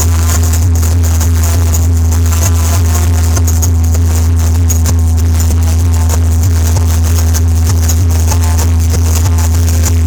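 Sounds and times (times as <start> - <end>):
loud music with deep bass: 0.0 - 10.0.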